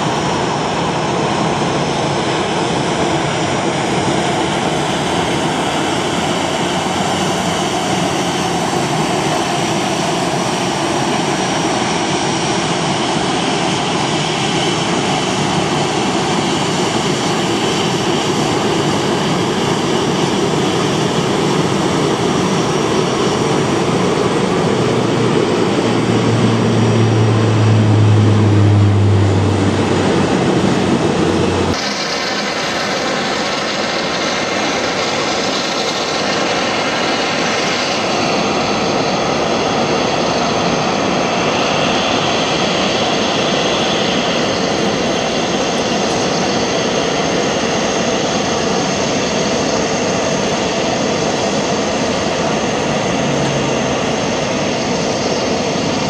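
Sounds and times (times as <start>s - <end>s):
jet engines rushing: 0.0s - 56.0s
jet engines whining at idle: 0.0s - 56.0s.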